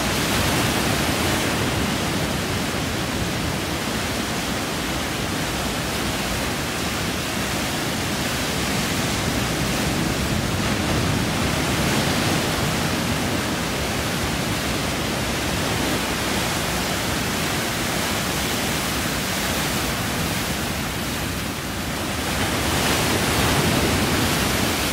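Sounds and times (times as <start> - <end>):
surf washing up a beach: 0.0 - 24.9.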